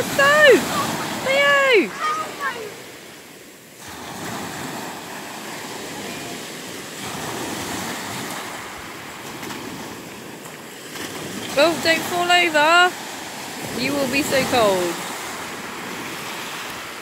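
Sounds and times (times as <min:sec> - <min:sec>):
waves washing up pebble beach: 0:00.0 - 0:17.0.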